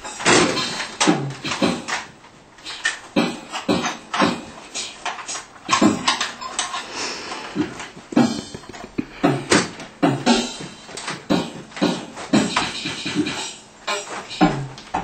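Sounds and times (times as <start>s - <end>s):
music with strong beat: 0.0s - 6.2s, 7.6s - 15.0s.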